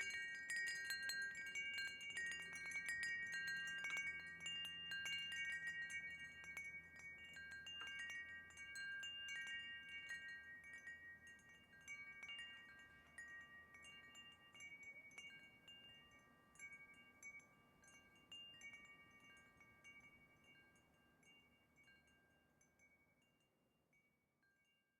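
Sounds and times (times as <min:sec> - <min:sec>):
wind chimes tinkling: 0:00.0 - 0:24.9.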